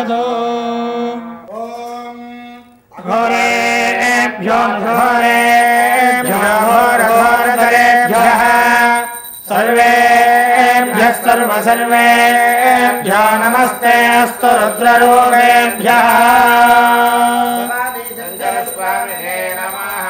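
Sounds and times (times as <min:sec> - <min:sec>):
men chanting in unison: 0:03.0 - 0:20.0.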